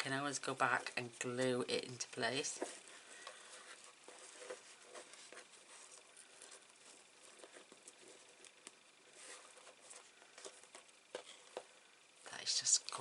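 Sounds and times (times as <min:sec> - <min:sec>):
ribbon and card rustling: 0:00.0 - 0:11.8.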